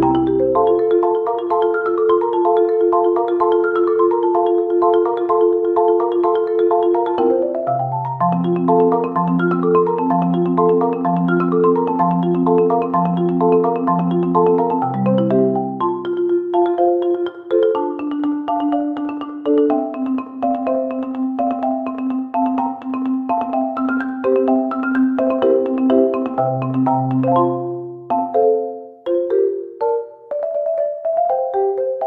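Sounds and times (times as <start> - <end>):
bouncy marimba melody: 0.0 - 32.0.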